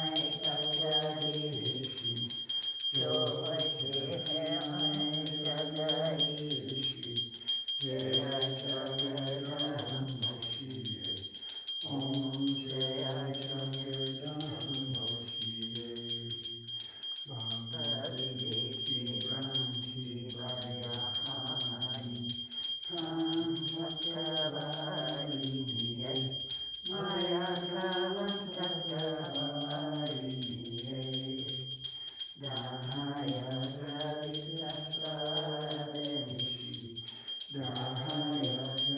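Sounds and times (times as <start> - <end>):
voices chanting: 0.0 - 2.4, 3.0 - 11.2, 11.8 - 16.4, 17.3 - 31.7, 32.4 - 38.9
hand bell ringing: 0.0 - 38.9.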